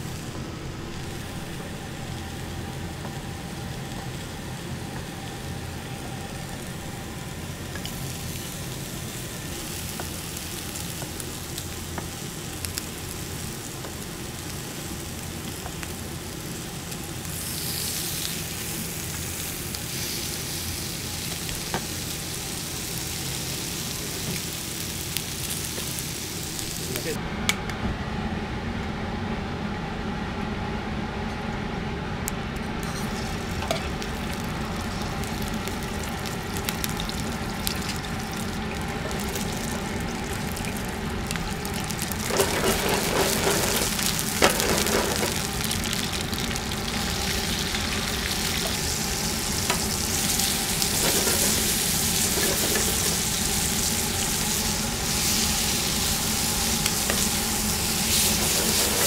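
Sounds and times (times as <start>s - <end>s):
food sizzling in a pan: 0.0s - 27.2s, 32.8s - 59.0s.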